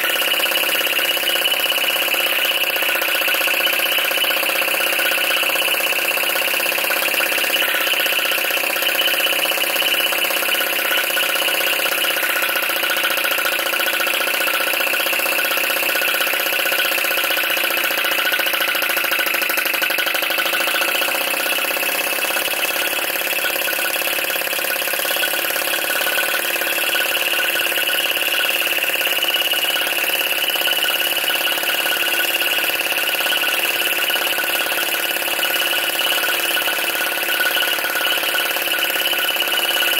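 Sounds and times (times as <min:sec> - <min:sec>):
small engine clattering: 0:00.0 - 0:39.9.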